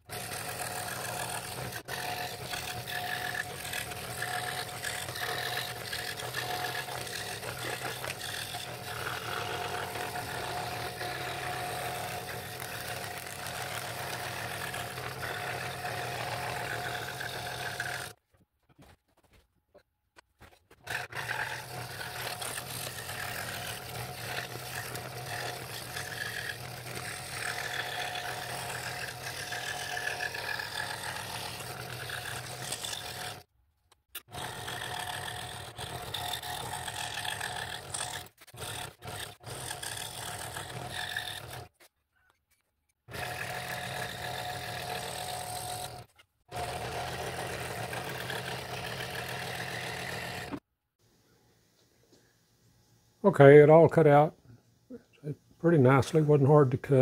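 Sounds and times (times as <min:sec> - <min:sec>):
scroll saw cutting wood: 0:00.0 - 0:18.2, 0:20.4 - 0:33.5, 0:34.1 - 0:41.9, 0:42.5 - 0:50.6.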